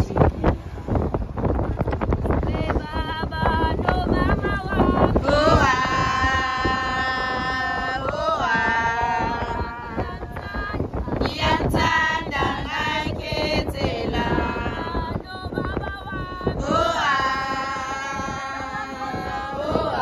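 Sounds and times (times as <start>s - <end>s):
women and girls singing: 2.3s - 20.0s.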